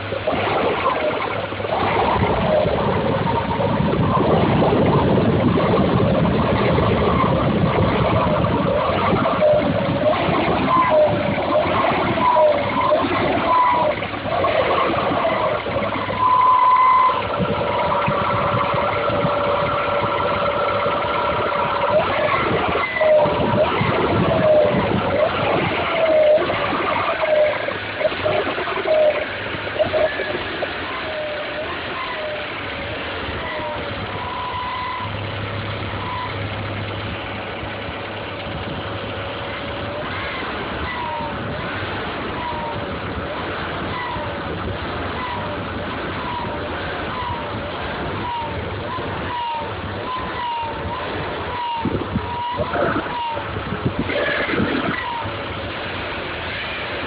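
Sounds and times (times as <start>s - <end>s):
car engine running: 0.0s - 57.0s
whining tone: 0.0s - 57.0s.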